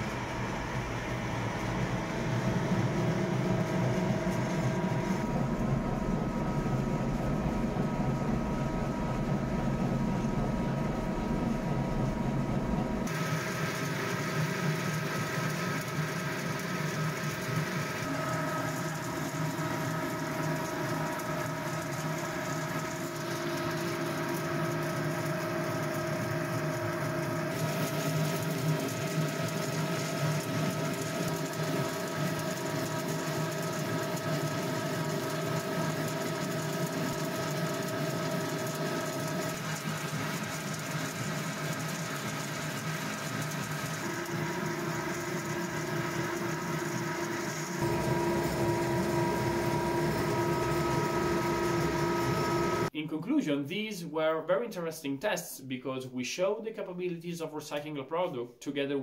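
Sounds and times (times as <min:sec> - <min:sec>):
pellet mill mechanical drone: 0:00.0 - 0:53.0.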